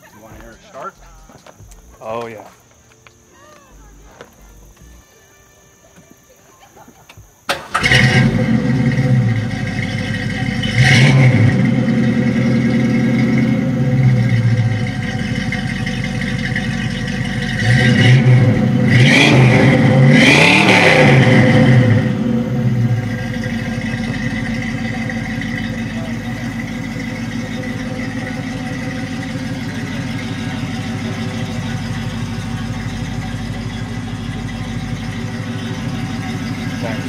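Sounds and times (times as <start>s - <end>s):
car engine idling and revving: 7.3s - 37.0s.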